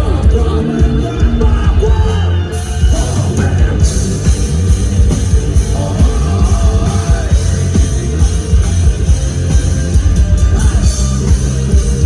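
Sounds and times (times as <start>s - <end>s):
bass guitar: 0.0s - 12.0s
drums keeping a steady beat: 0.0s - 12.0s
electric guitar: 0.0s - 12.0s.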